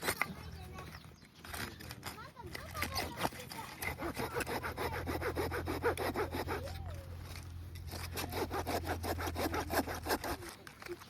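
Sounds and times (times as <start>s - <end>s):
hand saw cutting wood: 0.0s - 0.5s, 2.5s - 11.0s.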